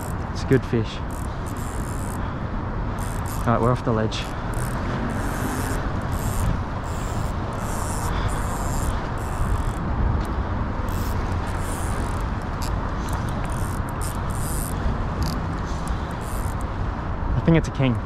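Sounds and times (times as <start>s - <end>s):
fishing reel rasping: 0.0s - 9.8s, 10.8s - 16.7s.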